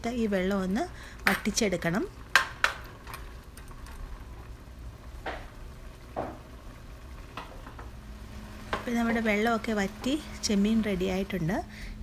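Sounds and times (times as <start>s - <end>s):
water bubbling and sizzling in a pot: 0.0s - 12.0s.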